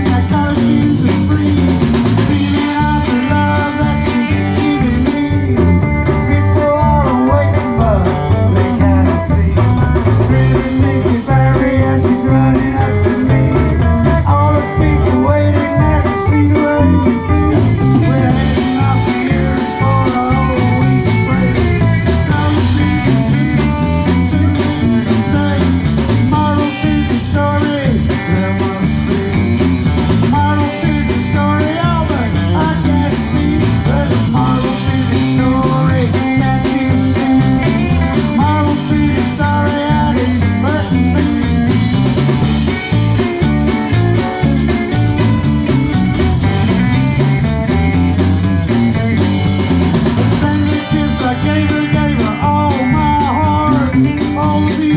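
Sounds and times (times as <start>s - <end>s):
bass guitar: 0.0s - 54.9s
drum kit: 0.0s - 54.9s
electric guitar bending notes: 0.0s - 54.9s.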